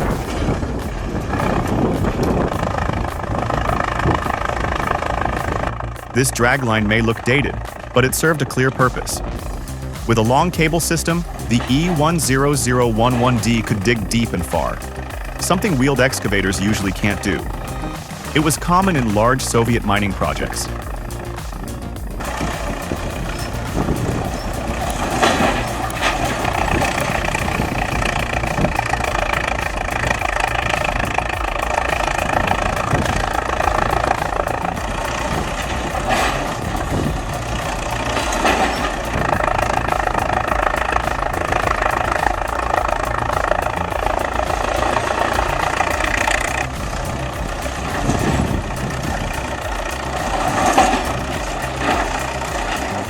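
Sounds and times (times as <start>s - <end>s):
heavy machine engine running: 0.0s - 53.0s.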